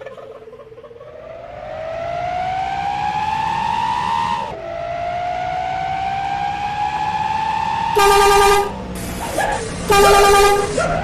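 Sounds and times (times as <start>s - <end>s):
truck accelerating with whine: 0.0s - 11.0s.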